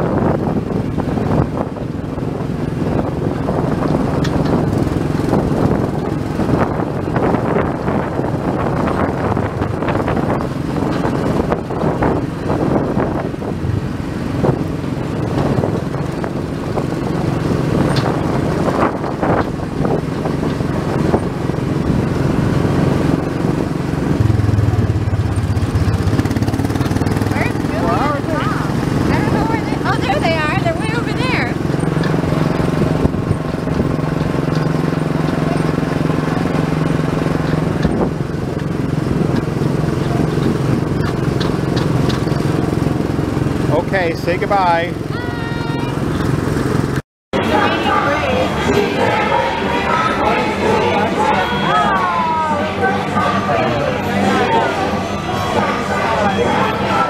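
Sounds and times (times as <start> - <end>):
small gasoline engine droning: 0.0 - 57.0.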